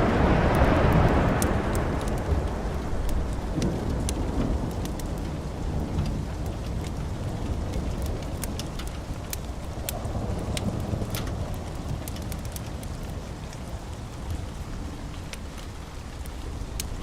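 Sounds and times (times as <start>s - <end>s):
steady rain: 0.0s - 17.0s
thunder rumble: 0.0s - 17.0s
sharp ticks and crackles: 0.1s - 17.0s.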